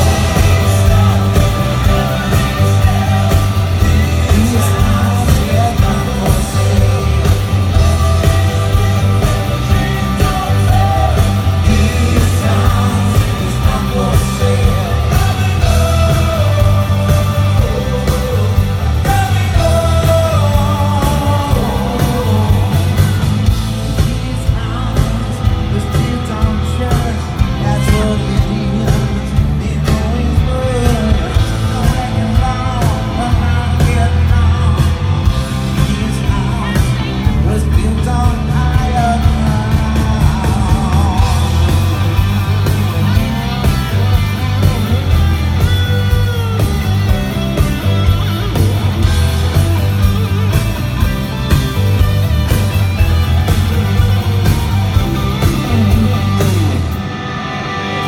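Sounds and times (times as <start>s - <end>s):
person singing: 0.0s - 48.2s, 53.0s - 57.0s
steady drumbeat: 0.0s - 57.0s
rock band playing live: 0.0s - 58.0s.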